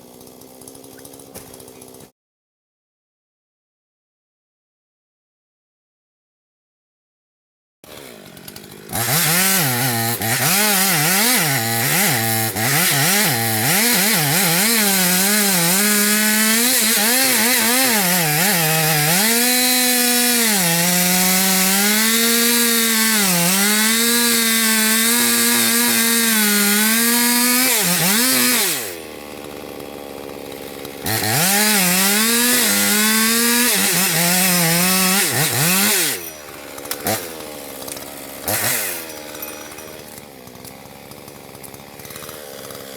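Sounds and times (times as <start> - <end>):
chainsaw cutting wood: 0.0 - 2.1, 7.8 - 42.9.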